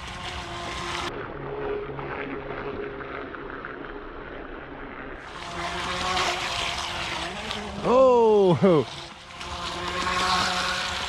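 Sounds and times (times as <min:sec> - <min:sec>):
model boat electric motor: 0:00.0 - 0:11.0
outdoor noise: 0:00.0 - 0:11.0.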